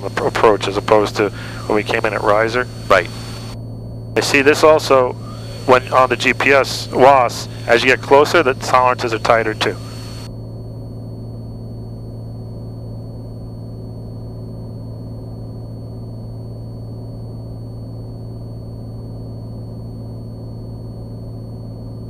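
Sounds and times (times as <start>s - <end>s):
airplane engine and propeller droning: 0.0s - 19.0s
thin high whine: 0.0s - 22.0s.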